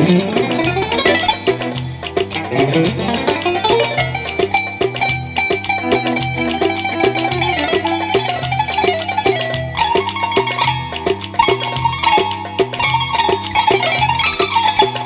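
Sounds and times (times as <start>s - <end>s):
plucked zither melody: 0.0s - 15.0s.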